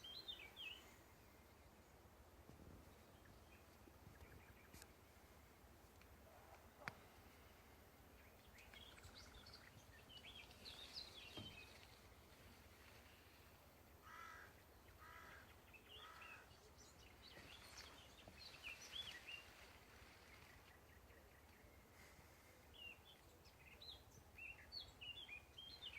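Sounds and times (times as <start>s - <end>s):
small birds chirping: 0.0s - 2.2s, 2.8s - 25.9s.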